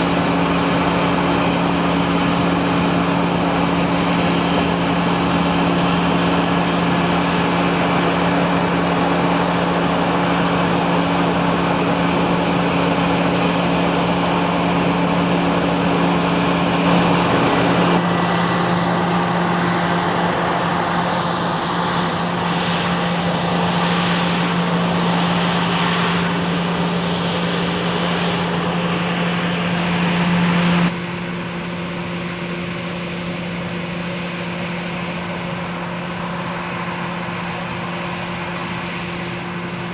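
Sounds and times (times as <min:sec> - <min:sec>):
harvest machinery engine hum: 0:00.0 - 0:39.9.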